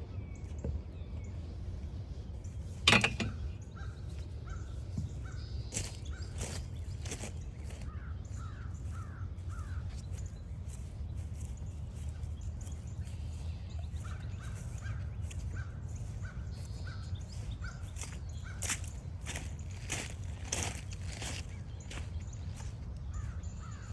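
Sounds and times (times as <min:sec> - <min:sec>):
steady low rumble: 0:00.0 - 0:23.9
wild birds calling: 0:00.0 - 0:23.9.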